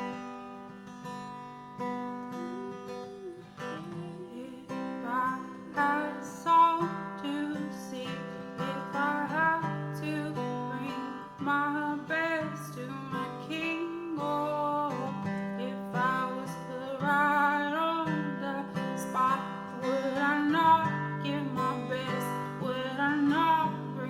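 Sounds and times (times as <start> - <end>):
acoustic guitar strumming chords: 0.0 - 24.0
wordless sung melody: 0.0 - 24.0.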